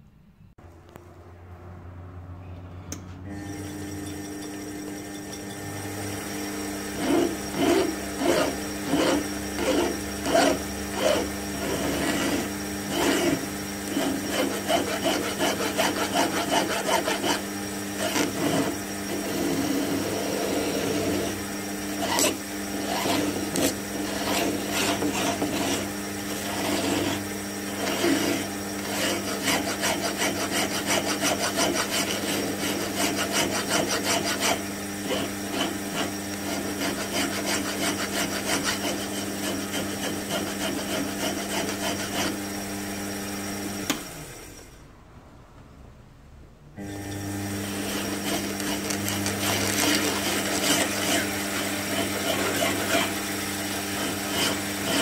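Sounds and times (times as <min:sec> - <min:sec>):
metal lathe humming: 0:02.4 - 0:44.9, 0:46.8 - 0:55.0
file rasping on metal: 0:03.6 - 0:05.8, 0:06.5 - 0:21.4, 0:22.0 - 0:42.6, 0:47.7 - 0:55.0.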